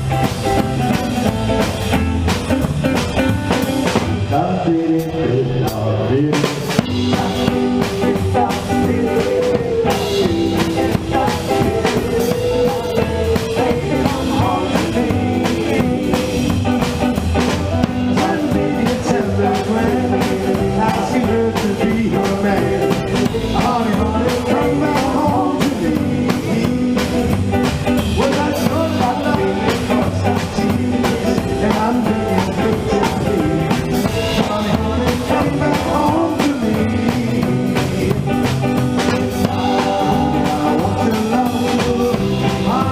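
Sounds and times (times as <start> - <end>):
drum kit: 0.0 - 42.9
electric guitar: 0.0 - 42.9
person singing: 4.3 - 42.9.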